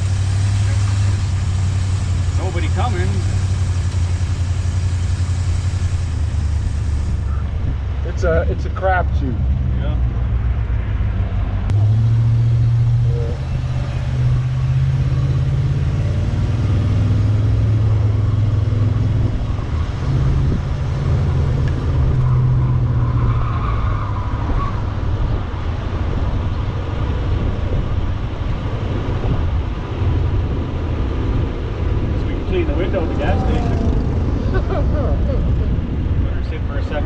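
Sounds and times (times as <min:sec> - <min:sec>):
car engine running: 0:00.0 - 0:37.0
road noise: 0:00.0 - 0:37.0.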